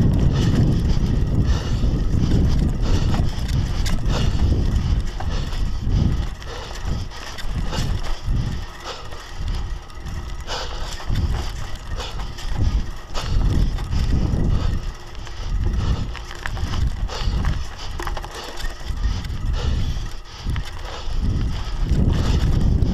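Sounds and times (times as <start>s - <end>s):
bike rattling and knocking: 0.0s - 22.9s
bike tyre rumble: 0.0s - 22.9s
wind buffeting microphone: 0.0s - 22.9s.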